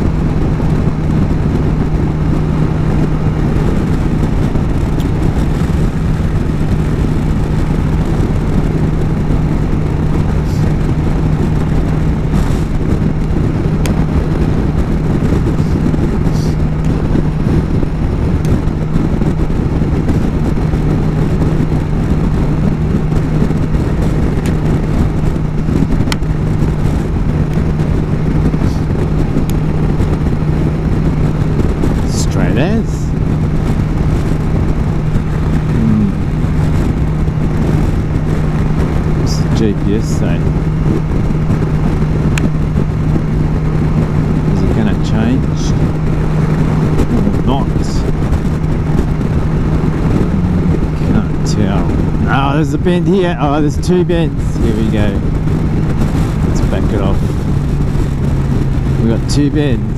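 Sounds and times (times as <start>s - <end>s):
motorcycle engine droning: 0.0s - 59.9s
wind rush on microphone: 0.0s - 59.9s.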